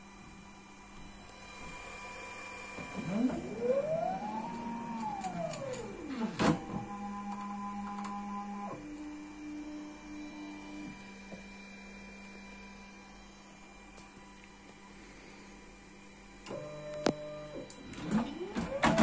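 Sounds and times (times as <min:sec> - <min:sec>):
machine motor whine: 0:00.0 - 0:19.0.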